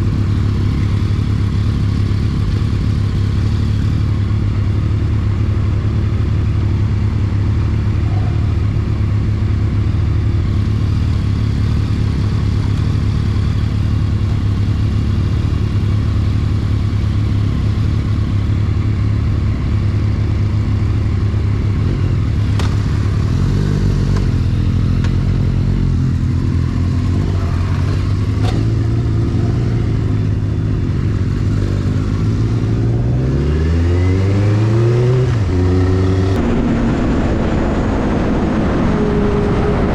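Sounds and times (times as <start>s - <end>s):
motorcycle engine revving: 7.5s - 39.9s.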